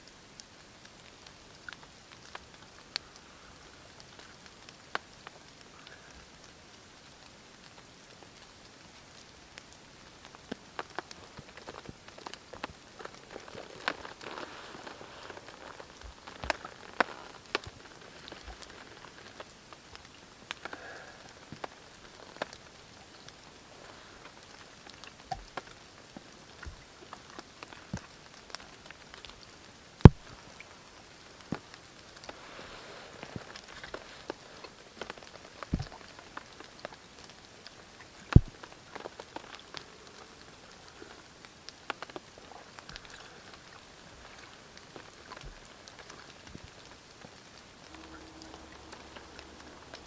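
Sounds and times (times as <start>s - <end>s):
large raindrops tapping: 0.0s - 50.0s
rain patter: 0.0s - 50.0s.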